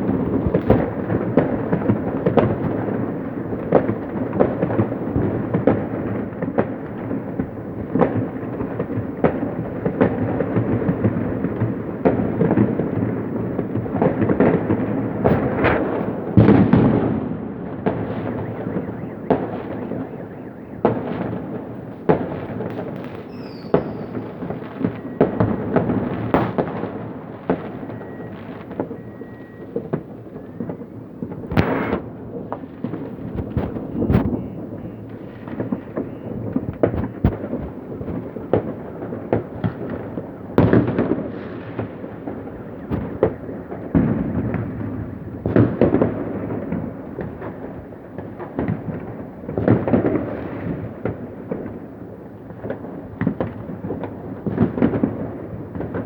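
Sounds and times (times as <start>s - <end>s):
fireworks booming and banging: 0.0s - 56.0s.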